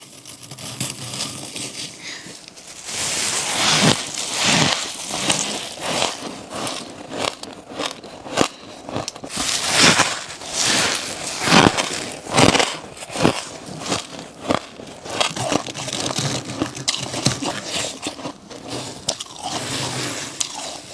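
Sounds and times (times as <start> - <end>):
person biting crunchy frost: 0.0 - 20.9.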